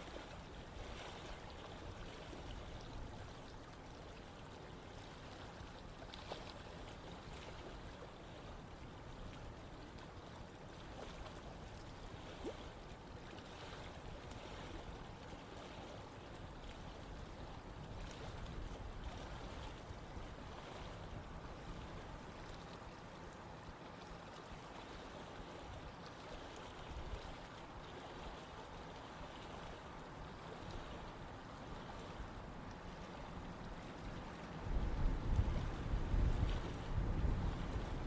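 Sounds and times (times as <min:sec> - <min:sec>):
small water splashes: 0:00.0 - 0:38.0
stream water flowing: 0:00.0 - 0:38.0.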